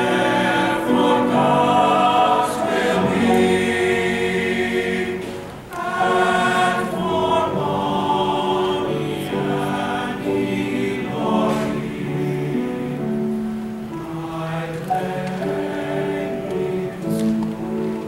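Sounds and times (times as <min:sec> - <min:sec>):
mixed choir singing: 0:00.0 - 0:18.0.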